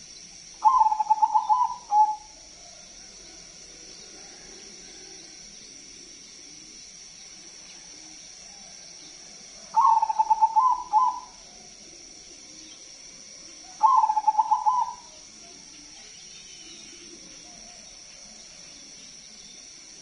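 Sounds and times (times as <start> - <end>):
dove cooing song: 0.6 - 19.5.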